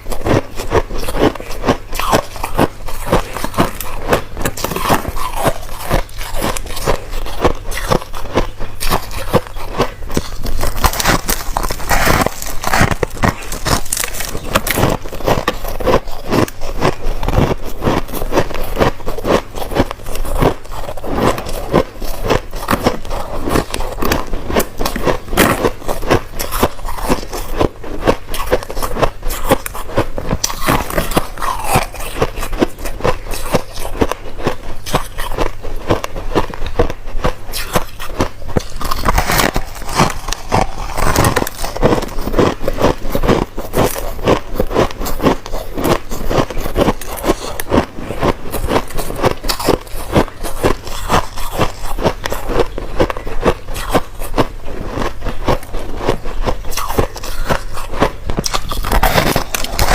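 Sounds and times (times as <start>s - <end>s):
crushed ice being chewed: 0.0s - 59.9s.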